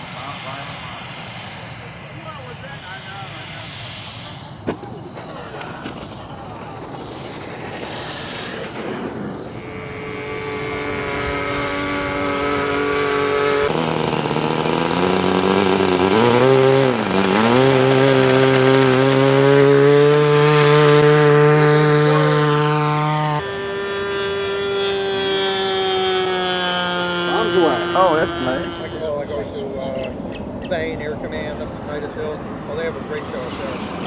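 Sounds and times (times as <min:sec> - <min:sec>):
model plane motor droning: 0:00.0 - 0:34.0.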